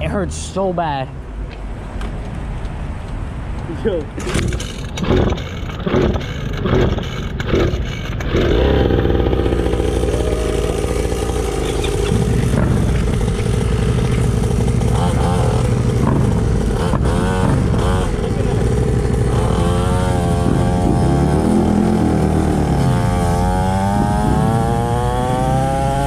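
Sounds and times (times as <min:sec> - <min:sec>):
two-stroke engine cranking: 0:04.2 - 0:26.0
two-stroke engine running and revving: 0:04.2 - 0:26.0.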